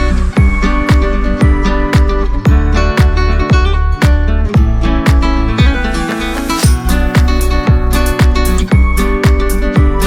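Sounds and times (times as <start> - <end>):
deep beat: 0.0 - 10.0
plucked guitar notes: 0.0 - 10.0
upbeat background music: 0.0 - 10.0.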